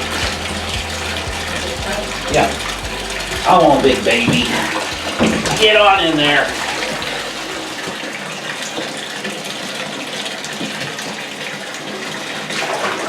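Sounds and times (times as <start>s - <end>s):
water running from bathtub tap: 0.0s - 13.0s.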